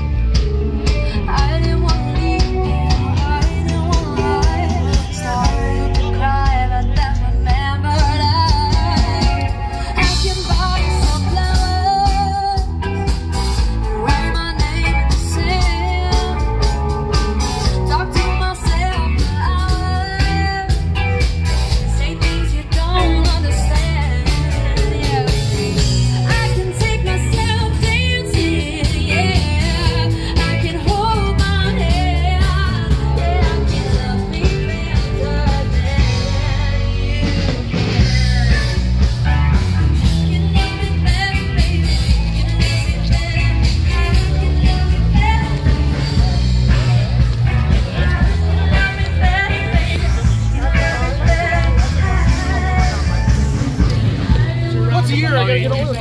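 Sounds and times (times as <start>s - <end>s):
loud rock music with singer: 0.0s - 56.0s.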